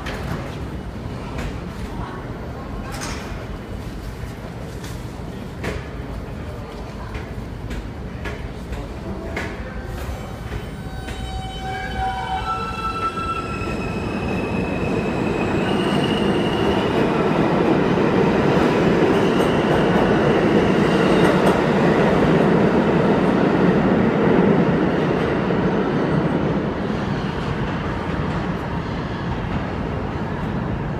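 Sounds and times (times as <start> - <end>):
train wheels rumbling on rails: 0.0 - 30.9.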